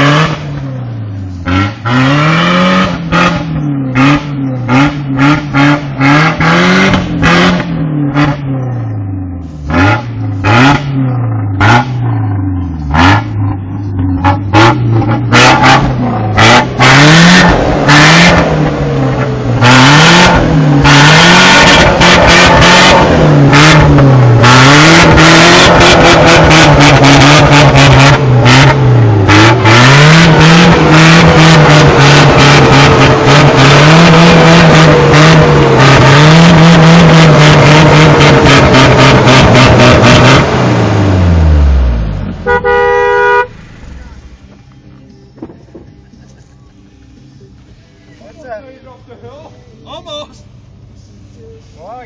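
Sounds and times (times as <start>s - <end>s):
truck engine revving: 0.0s - 44.8s.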